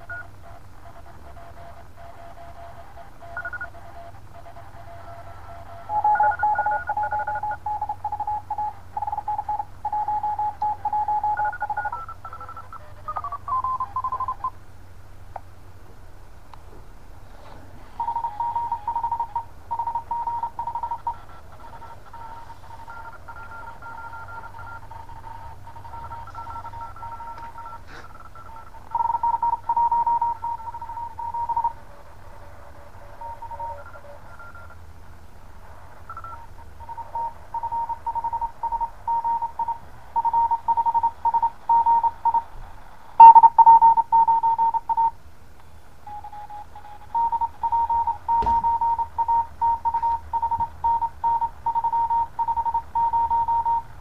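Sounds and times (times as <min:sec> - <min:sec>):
faint morse signals: 0:00.0 - 0:14.6, 0:17.2 - 0:45.2, 0:46.0 - 0:54.0
morse code tone: 0:00.0 - 0:14.6, 0:17.8 - 0:34.9, 0:35.9 - 0:42.6, 0:43.2 - 0:45.2, 0:46.0 - 0:54.0
low hum: 0:00.0 - 0:45.2.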